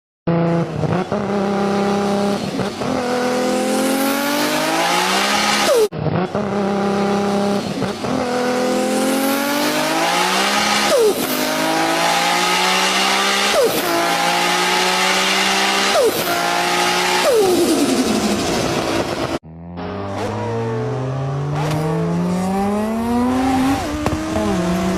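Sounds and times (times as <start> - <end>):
sports car engine accelerating: 0.3 - 24.9.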